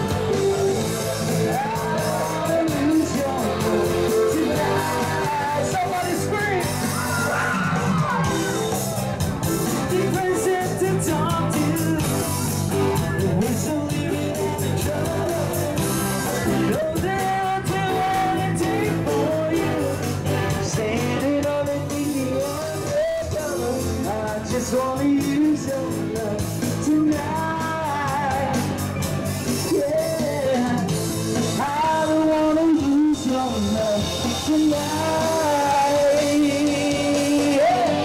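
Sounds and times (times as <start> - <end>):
live band playing: 0.0 - 38.0
person singing: 0.0 - 38.0.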